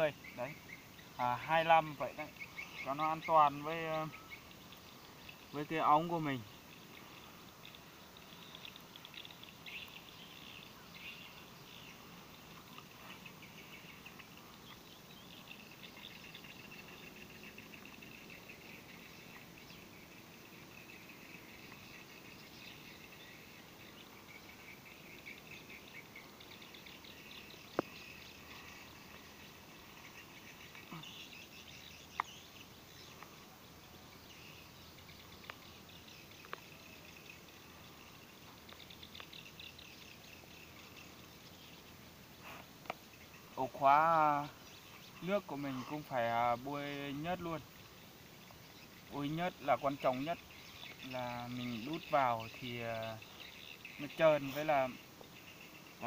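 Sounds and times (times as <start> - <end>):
insects chirring: 0.0 - 56.0
pulsing insect chirr: 0.0 - 56.0.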